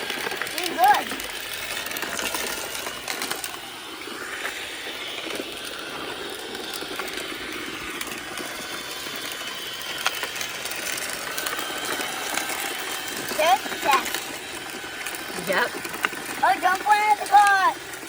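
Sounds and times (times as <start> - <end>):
robot vacuum whirring: 0.0 - 18.0.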